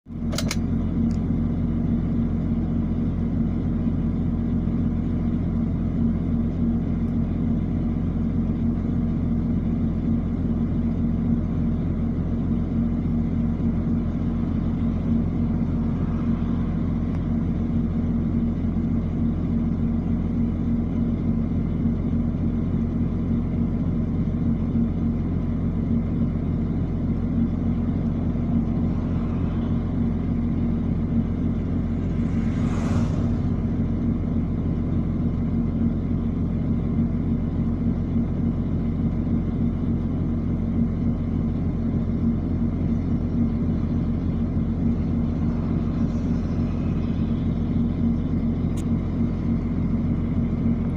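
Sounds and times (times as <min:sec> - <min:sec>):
diesel engine idling: 0:00.1 - 0:50.9.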